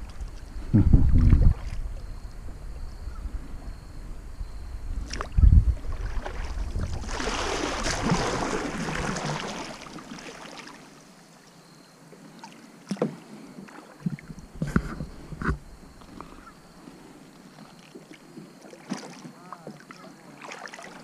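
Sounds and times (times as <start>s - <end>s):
paddle splashing in water: 0.0s - 2.2s, 5.0s - 11.1s, 12.3s - 21.0s.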